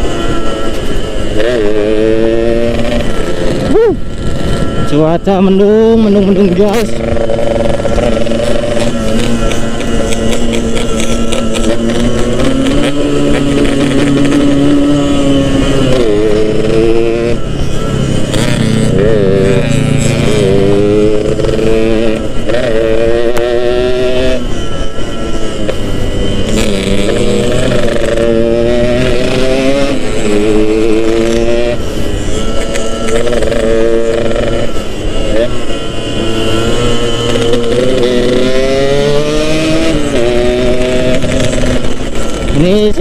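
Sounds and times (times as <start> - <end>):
two-stroke motorcycle engine revving: 0.0 - 43.0.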